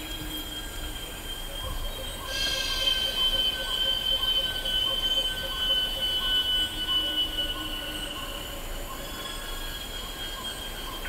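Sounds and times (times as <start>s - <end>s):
cicadas droning shrilly: 0.0s - 11.0s
soft pulsing insect calls: 0.0s - 11.0s.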